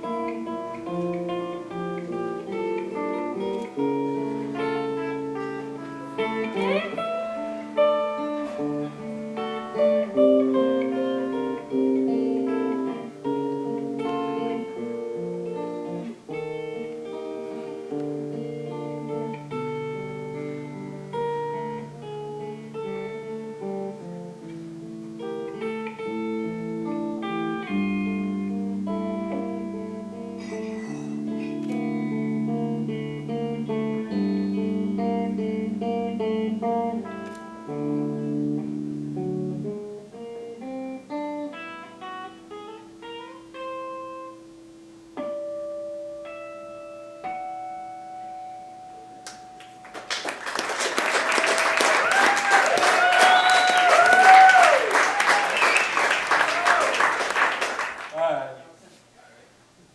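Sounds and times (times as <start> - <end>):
live band guitar instrumental: 0.0 - 58.1.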